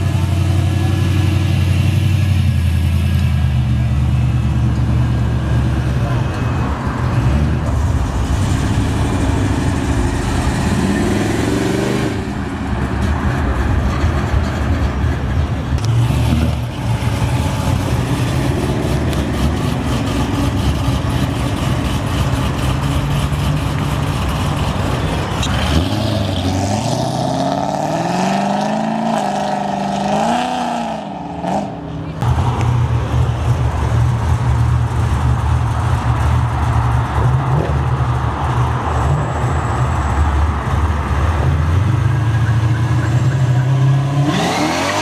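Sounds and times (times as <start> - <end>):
car exhaust rumble: 0.0 - 28.8, 31.3 - 44.5
car engine revving: 0.0 - 39.6, 41.7 - 45.0.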